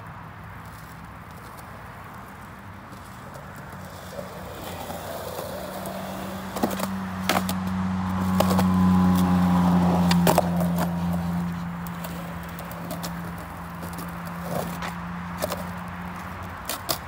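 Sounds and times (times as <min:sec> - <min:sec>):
skateboard rolling on concrete: 0:00.0 - 0:17.0
skateboard clacks: 0:00.7 - 0:17.0.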